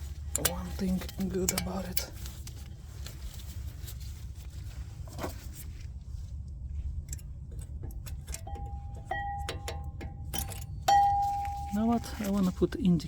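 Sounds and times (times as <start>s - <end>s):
brake pad scraping: 0.0s - 12.6s
low background rumble: 0.0s - 13.0s.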